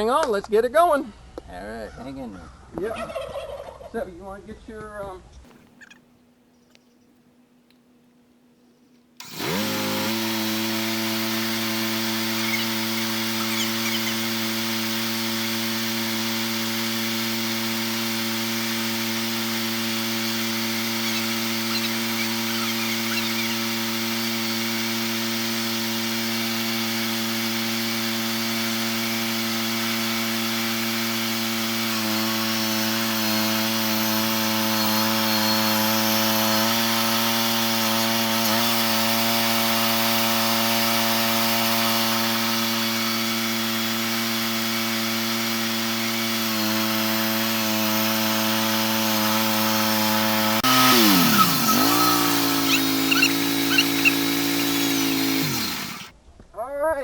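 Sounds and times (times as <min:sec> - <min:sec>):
saw cutting through log: 0:09.2 - 0:56.1.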